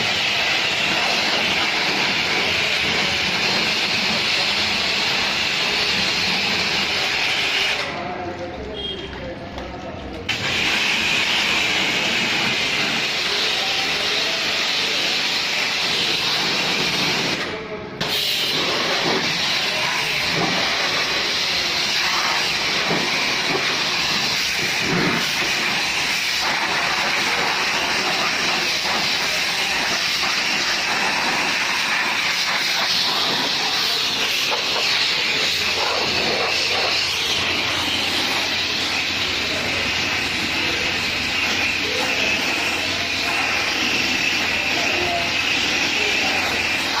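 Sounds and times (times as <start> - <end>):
pressure washer spraying: 0.0 - 8.2, 10.2 - 47.0.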